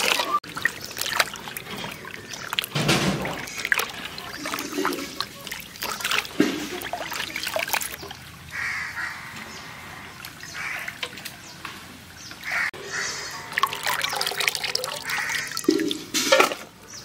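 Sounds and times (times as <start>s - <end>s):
water splashing and trickling: 0.0s - 17.0s.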